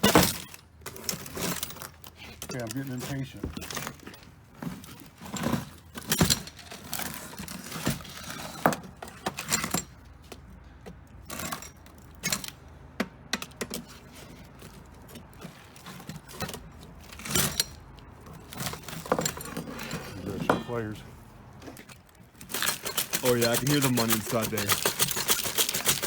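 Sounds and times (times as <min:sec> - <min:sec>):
hand tools clinking on metal: 0:00.0 - 0:12.6, 0:13.2 - 0:26.0.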